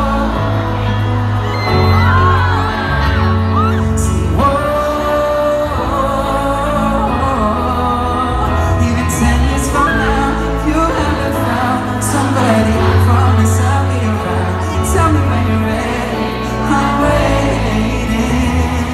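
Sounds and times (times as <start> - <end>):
live pop music with singing: 0.0 - 18.9.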